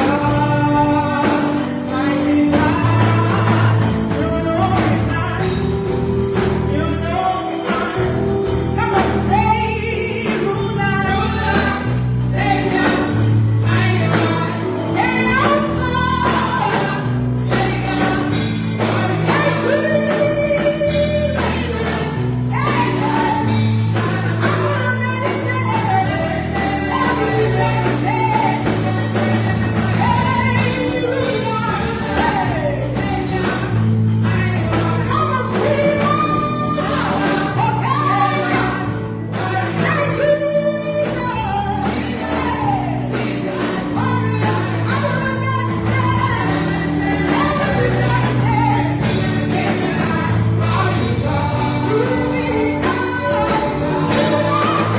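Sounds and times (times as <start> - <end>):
gospel group singing: 0.0 - 54.9
steady bass line: 0.0 - 54.9.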